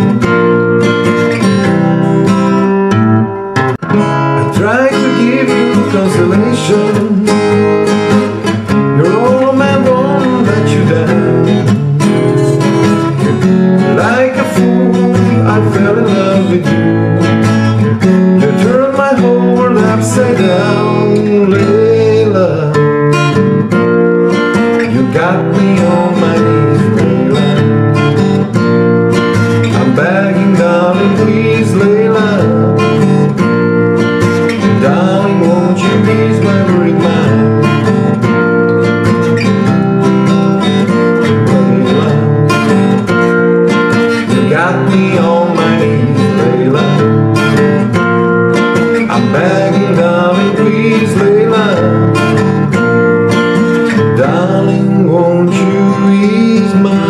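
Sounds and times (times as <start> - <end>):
acoustic guitar fingerpicked: 0.0 - 57.0.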